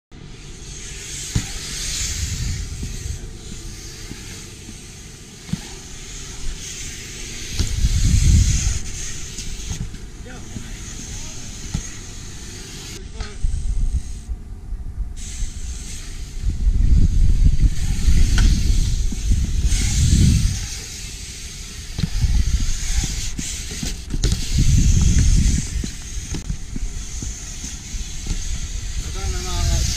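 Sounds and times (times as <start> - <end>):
bike tyres rolling on concrete: 0.2 - 14.3, 15.2 - 29.9
steady hiss: 0.2 - 14.4, 15.0 - 29.9.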